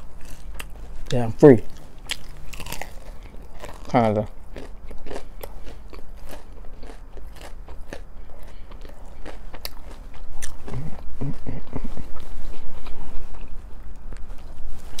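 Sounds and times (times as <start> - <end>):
chewing and crunching fried chicken: 0.0 - 15.0.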